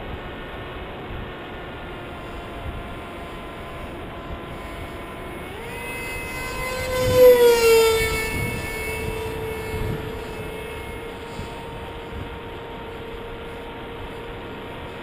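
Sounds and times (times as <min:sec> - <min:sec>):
electric motor and propeller buzzing: 0:00.0 - 0:15.0.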